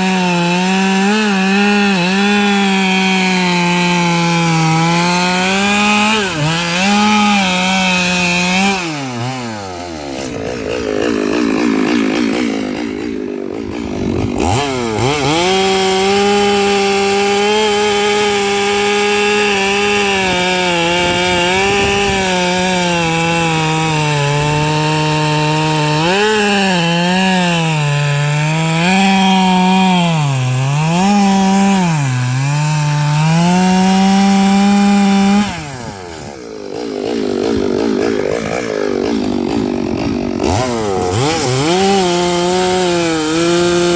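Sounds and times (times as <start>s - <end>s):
chainsaw cutting logs: 0.0s - 43.9s.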